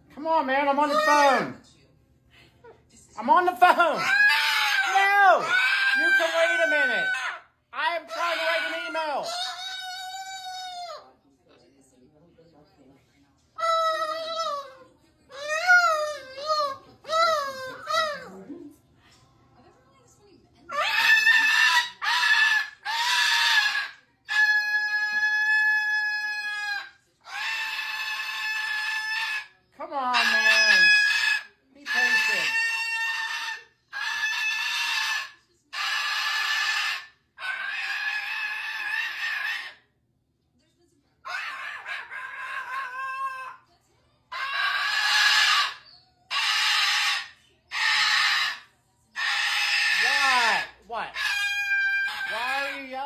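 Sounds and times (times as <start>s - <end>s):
cockatoo screaming: 0.7s - 1.6s, 3.8s - 11.0s, 13.6s - 18.4s, 20.7s - 39.8s, 41.3s - 43.6s, 44.3s - 53.0s.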